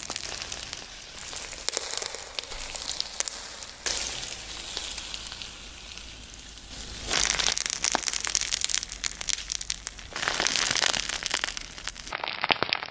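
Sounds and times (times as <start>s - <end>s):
slime squishing with crackling pops: 0.0s - 12.9s.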